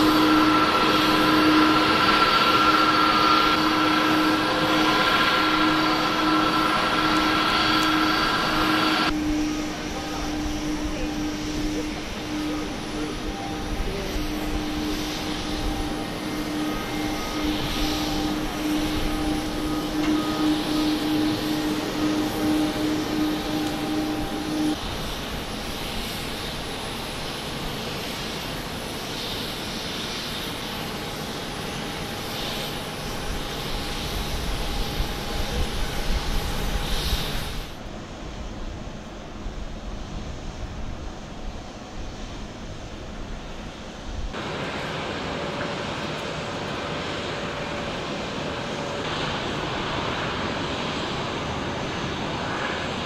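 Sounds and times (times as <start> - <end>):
aircraft engine hiss and whine: 0.0 - 53.0.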